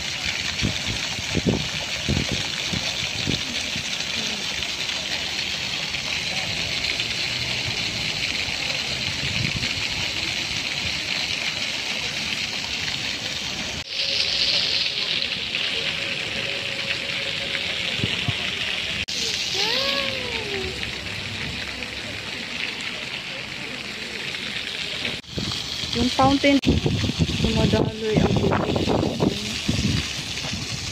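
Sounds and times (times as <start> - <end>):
fountain water splashing: 0.0 - 30.9.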